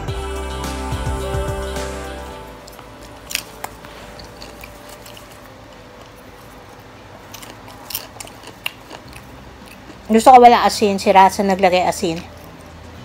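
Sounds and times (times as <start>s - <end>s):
popcorn crunching: 2.5s - 13.0s.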